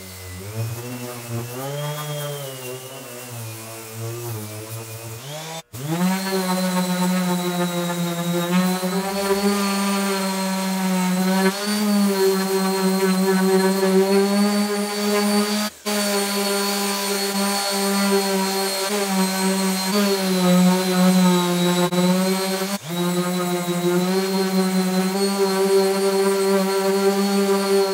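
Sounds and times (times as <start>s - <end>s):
orbital sander on wood: 0.0s - 27.9s.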